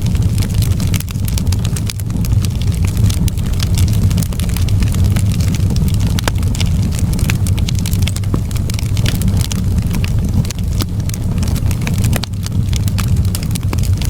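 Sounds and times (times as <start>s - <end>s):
low rumble of burning fire: 0.0s - 14.0s
wood fire crackling: 0.0s - 14.0s.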